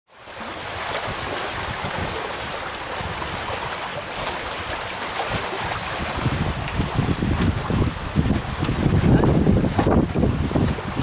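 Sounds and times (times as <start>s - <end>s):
rushing water: 0.1s - 11.0s
wind buffeting microphone: 0.6s - 11.0s.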